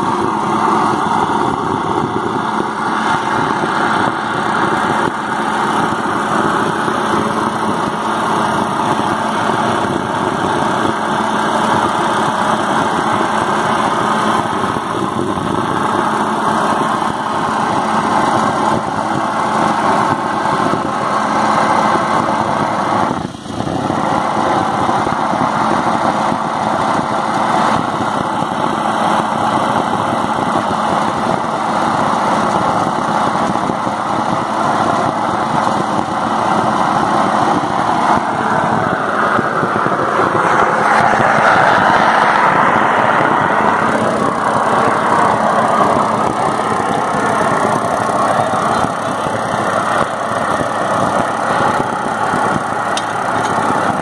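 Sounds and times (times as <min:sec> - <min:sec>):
burner roaring: 0:00.0 - 0:54.0.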